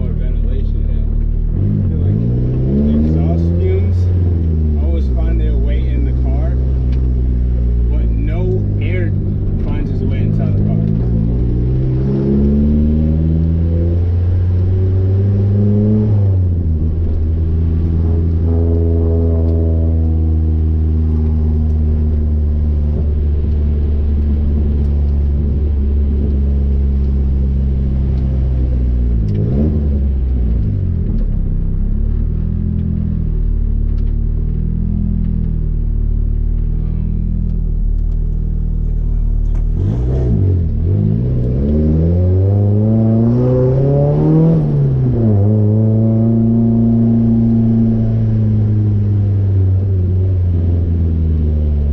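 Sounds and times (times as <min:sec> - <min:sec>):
loud car engine revving: 0:00.0 - 0:51.9.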